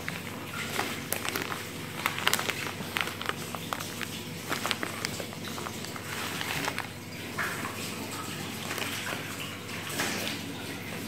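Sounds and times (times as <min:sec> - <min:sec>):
plastic bag crackling: 0:00.0 - 0:09.6.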